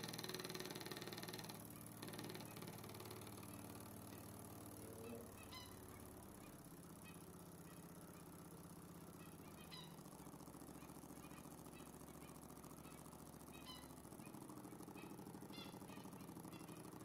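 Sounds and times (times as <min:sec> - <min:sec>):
small engine rhythmic pulsing: 0:00.0 - 0:17.0.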